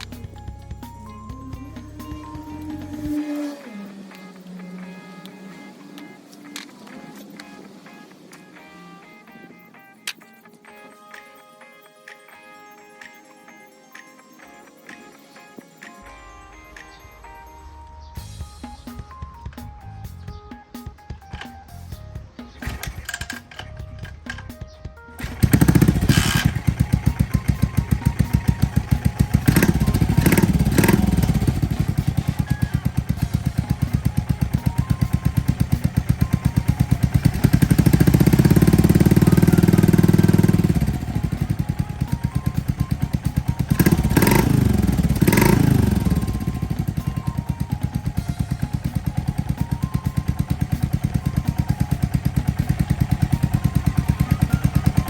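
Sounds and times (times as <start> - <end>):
motorcycle engine idling and revving: 0.0 - 10.2, 15.8 - 55.0.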